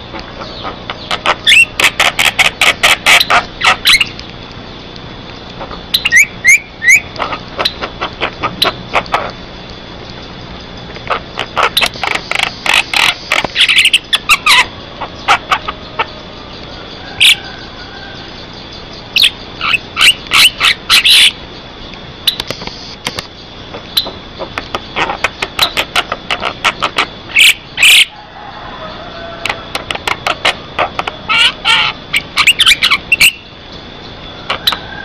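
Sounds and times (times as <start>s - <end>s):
bird chattering song: 0.0s - 22.6s, 23.2s - 28.1s, 29.4s - 35.0s.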